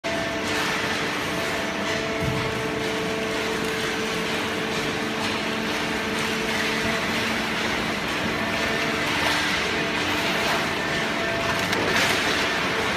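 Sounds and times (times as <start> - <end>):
baler machine hum: 0.0 - 12.9.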